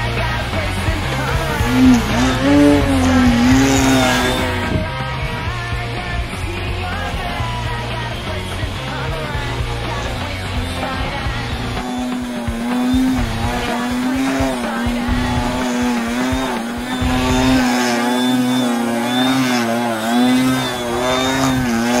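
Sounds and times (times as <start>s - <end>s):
propeller motor buzzing whine: 0.0s - 22.0s.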